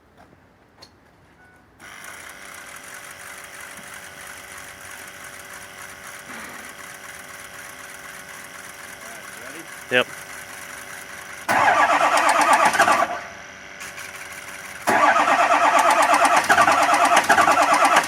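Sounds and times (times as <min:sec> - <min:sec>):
diesel engine with ticking exhaust leak: 0:01.8 - 0:18.0.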